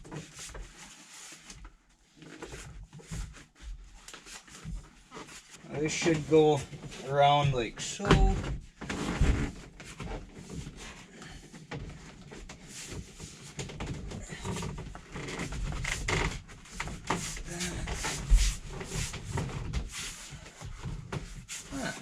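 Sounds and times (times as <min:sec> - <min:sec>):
rubbing and rustling of upholstery: 0:00.0 - 0:22.0.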